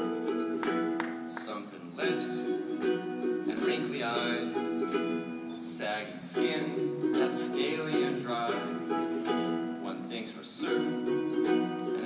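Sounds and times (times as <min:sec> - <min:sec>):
ukulele strumming over pa: 0:00.0 - 0:12.0.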